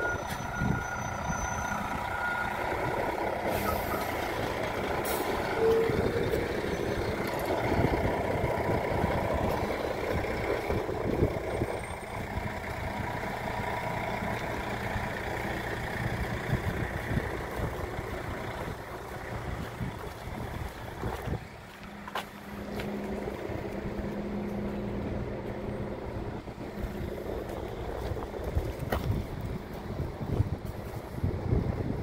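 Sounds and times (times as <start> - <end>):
bus engines rumbling: 0.0 - 32.0.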